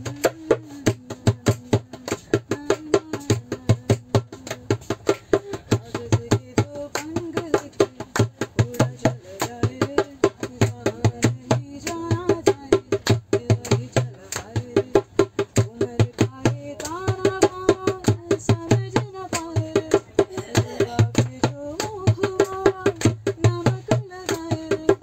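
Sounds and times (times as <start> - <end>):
hand drum beat: 0.0 - 25.0
woman singing: 0.0 - 25.0.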